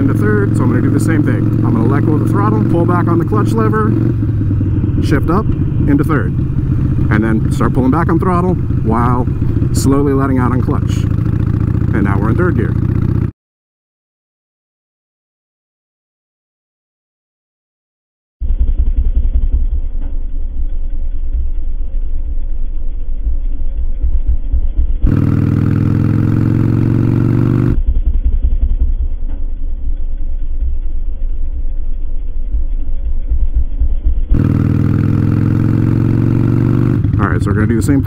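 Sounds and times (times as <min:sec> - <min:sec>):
motorcycle engine rumbling: 0:00.0 - 0:13.3, 0:18.4 - 0:38.0.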